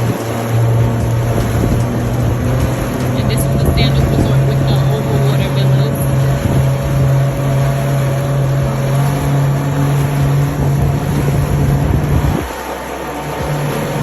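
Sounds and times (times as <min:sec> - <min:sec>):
jet ski engine running: 0:00.0 - 0:14.0
wind and water noise: 0:00.0 - 0:14.0.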